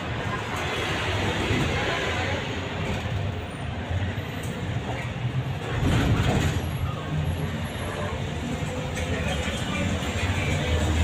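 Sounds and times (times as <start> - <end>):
trolleybus cabin rumble: 0.0 - 11.0.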